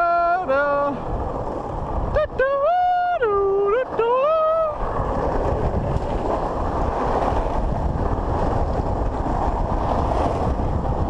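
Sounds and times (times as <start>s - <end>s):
longboard wheels rolling on tarmac: 0.0s - 11.0s
wind over microphone: 0.0s - 11.0s.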